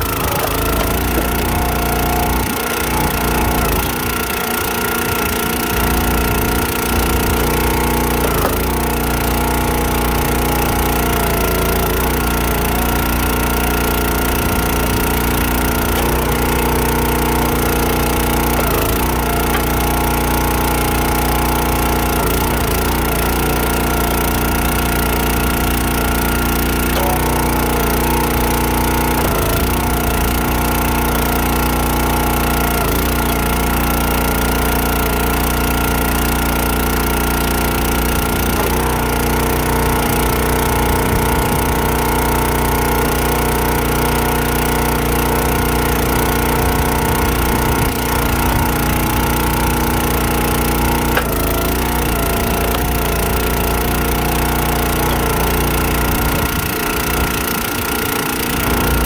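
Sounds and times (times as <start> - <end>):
small gas engine running: 0.0 - 59.0.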